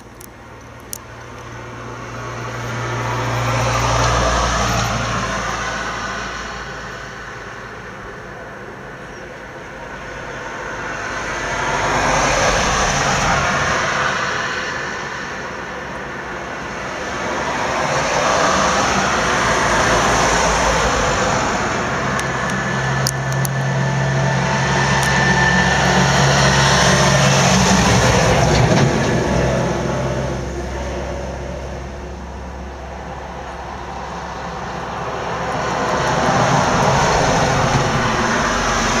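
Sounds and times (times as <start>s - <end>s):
heavy vehicle engine hum: 0.0s - 39.0s
tyre noise of passing vehicles: 0.0s - 39.0s.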